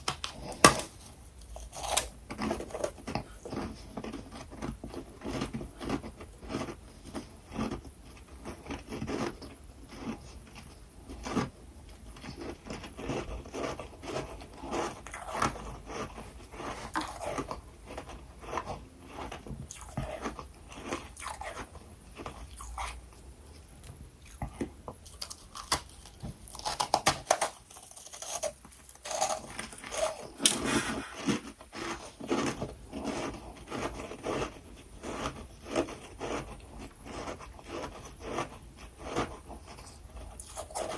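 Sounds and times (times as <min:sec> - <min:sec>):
frost being bitten and chewed: 0:00.0 - 0:23.2, 0:24.2 - 0:40.9.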